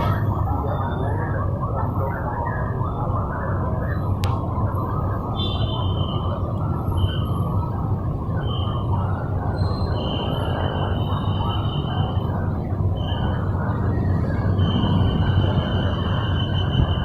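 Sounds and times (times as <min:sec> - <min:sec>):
vehicle and road rumble: 0:00.0 - 0:17.0.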